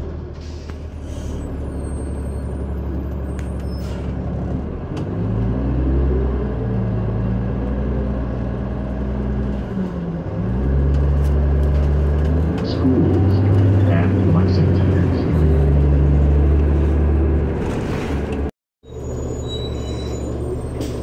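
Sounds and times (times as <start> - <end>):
bus engine running: 0.0 - 18.5.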